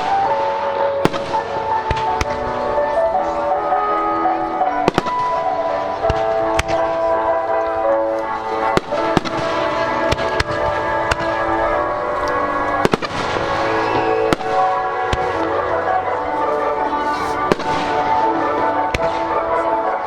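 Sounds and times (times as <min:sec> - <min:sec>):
fireworks bangs: 0:00.0 - 0:03.4, 0:04.3 - 0:20.0
music with long held notes: 0:00.0 - 0:20.0.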